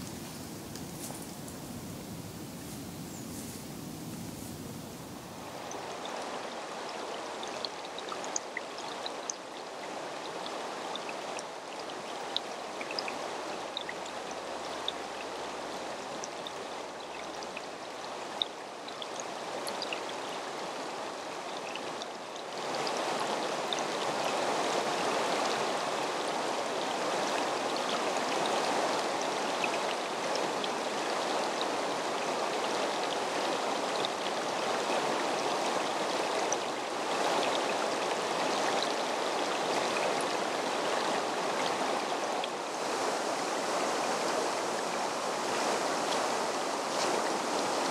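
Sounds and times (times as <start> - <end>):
stream flowing over stones: 0.0 - 47.9.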